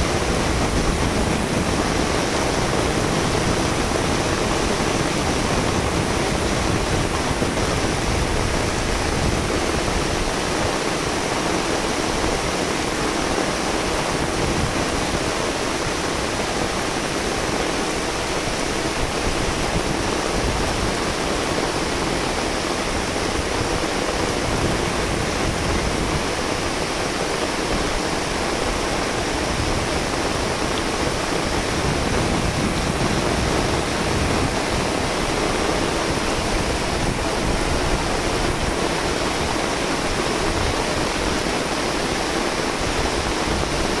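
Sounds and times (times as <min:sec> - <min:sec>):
rain falling steadily: 0:00.0 - 0:44.0.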